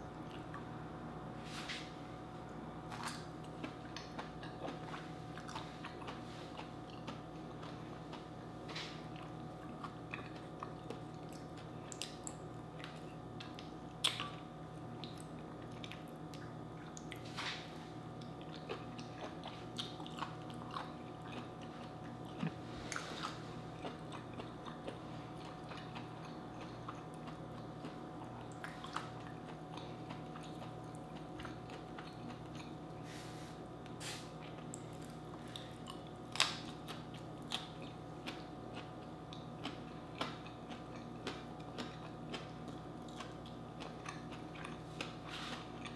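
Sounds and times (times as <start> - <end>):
close chewing with wet smacks: 3.0 - 17.6, 18.2 - 32.8, 34.4 - 45.9.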